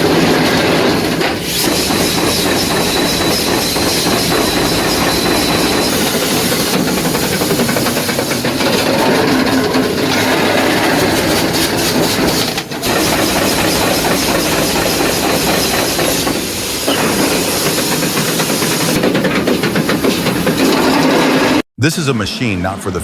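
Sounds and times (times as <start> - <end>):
steam engine running: 0.0 - 21.6
steam hissing: 0.0 - 21.6.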